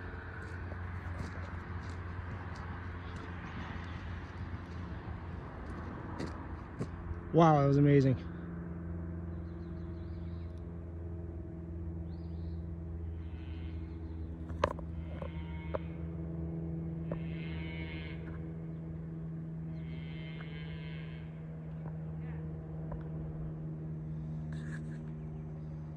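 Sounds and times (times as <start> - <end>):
engine idling hum: 0.0 - 25.9.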